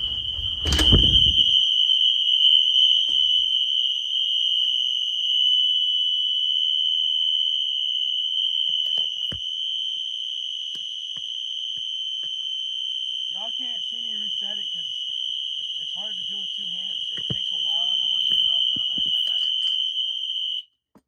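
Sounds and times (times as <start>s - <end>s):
fire alarm horn tone: 0.0s - 20.8s.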